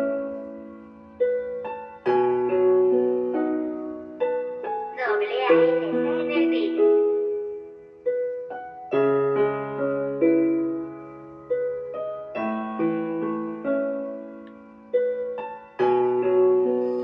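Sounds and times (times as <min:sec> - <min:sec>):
slow solo piano melody: 0:00.0 - 0:17.0.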